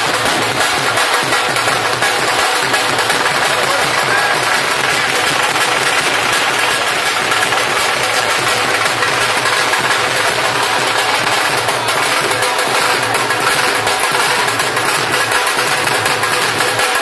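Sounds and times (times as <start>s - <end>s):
loud steady drumming: 0.0s - 17.0s.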